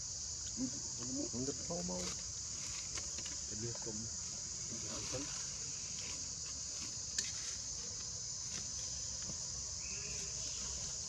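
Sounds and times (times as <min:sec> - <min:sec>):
forest insects droning: 0:00.0 - 0:11.0.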